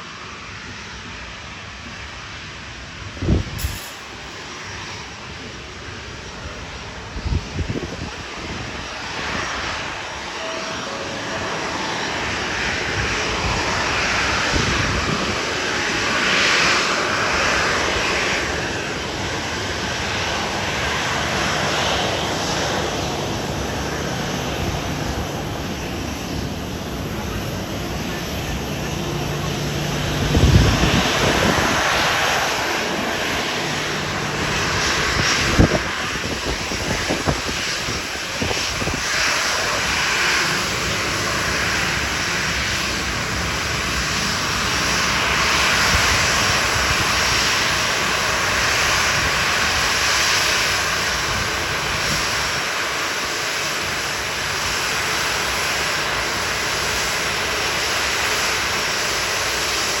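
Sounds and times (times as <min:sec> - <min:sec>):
jet engines running: 0:00.0 - 1:00.0.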